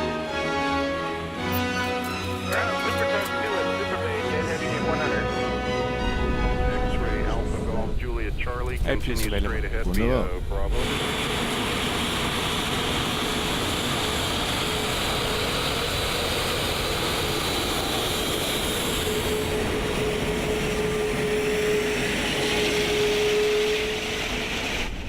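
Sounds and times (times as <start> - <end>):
jet engines idling: 0.0 - 25.0
steady whine: 0.6 - 25.0.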